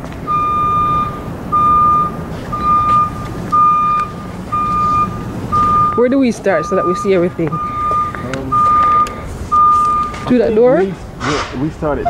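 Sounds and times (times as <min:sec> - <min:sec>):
vehicle backup alarm beeping: 0:00.0 - 0:11.2.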